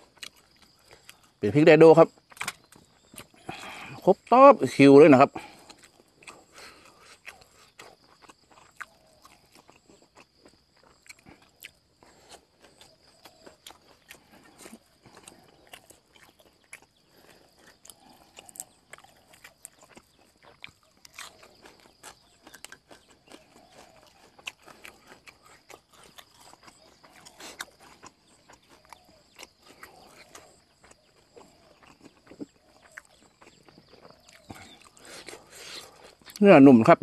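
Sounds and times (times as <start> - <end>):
chewing and lip smacking: 0.0 - 1.4, 2.0 - 4.3, 5.4 - 36.4.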